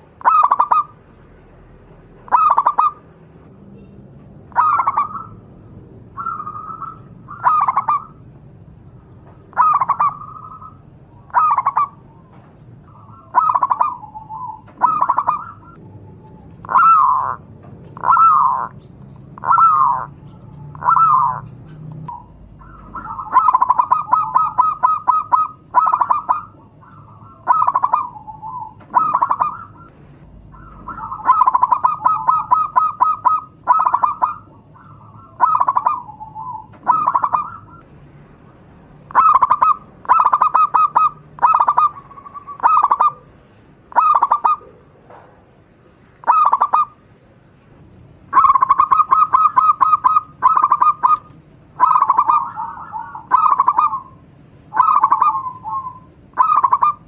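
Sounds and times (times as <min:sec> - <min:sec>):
dove cooing: 0:00.0 - 0:01.1, 0:02.1 - 0:03.2, 0:04.5 - 0:37.9, 0:39.0 - 0:45.1, 0:46.2 - 0:47.0, 0:48.3 - 0:57.0.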